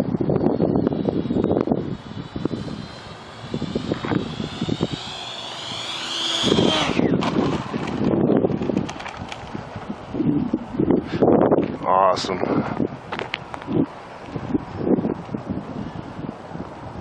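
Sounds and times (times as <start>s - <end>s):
electric ducted fan whine: 0.0s - 17.0s
wind buffeting microphone: 0.0s - 17.0s.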